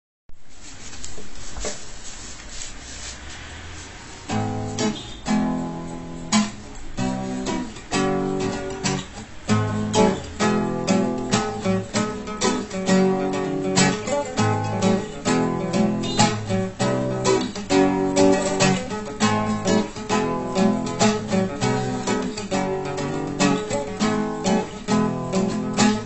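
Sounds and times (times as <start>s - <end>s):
acoustic guitar melody: 2.8s - 26.0s.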